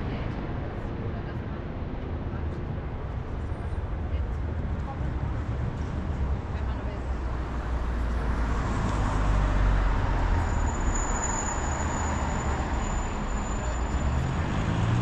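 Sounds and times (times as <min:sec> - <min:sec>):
road vehicles passing: 0:00.0 - 0:15.0.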